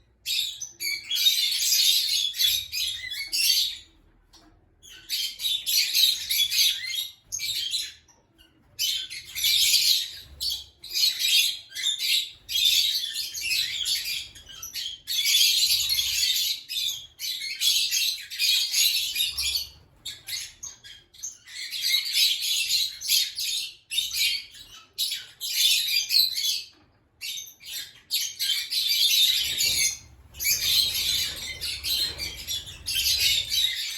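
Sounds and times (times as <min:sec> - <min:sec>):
lovebirds chattering and squawking: 0:00.0 - 0:33.9.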